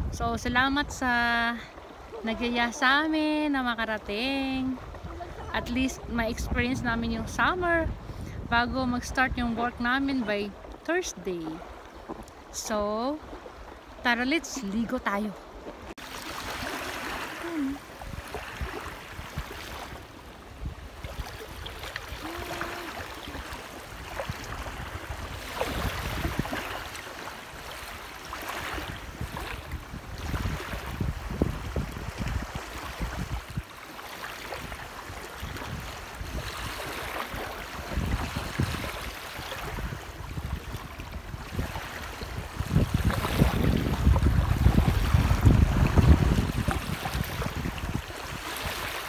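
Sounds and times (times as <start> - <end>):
wind on microphone: 0.0 - 13.7, 14.3 - 49.0
waves lapping on pebbles: 9.7 - 49.0.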